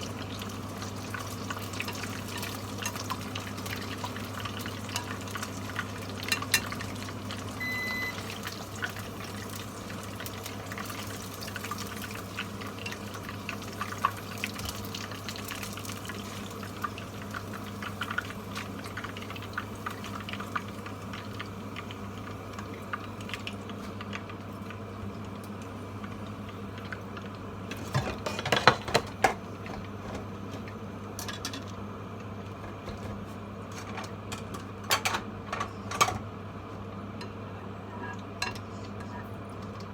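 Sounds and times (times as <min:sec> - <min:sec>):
chicken deep-frying in oil: 0:00.0 - 0:35.4.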